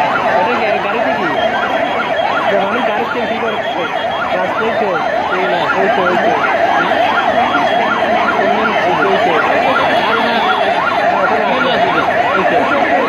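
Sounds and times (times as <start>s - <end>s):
large crowd din: 0.0s - 13.0s
siren yelping: 0.0s - 13.0s.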